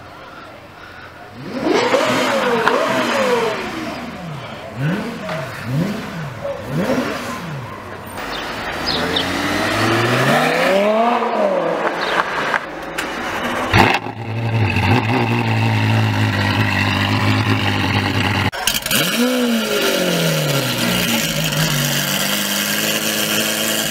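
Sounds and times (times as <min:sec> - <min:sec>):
sports car engine revving: 0:01.3 - 0:12.7, 0:13.3 - 0:23.9.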